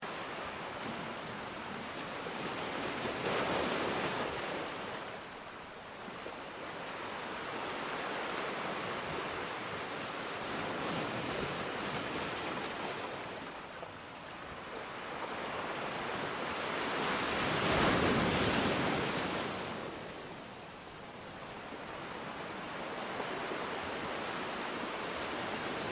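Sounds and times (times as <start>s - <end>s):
sea waves breaking on beach: 0.1s - 25.9s.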